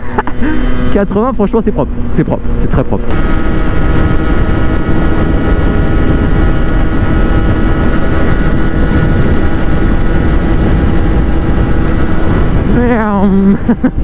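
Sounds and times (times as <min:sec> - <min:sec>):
two-stroke engine revving high: 0:00.0 - 0:14.0
wind buffeting microphone: 0:00.0 - 0:14.0.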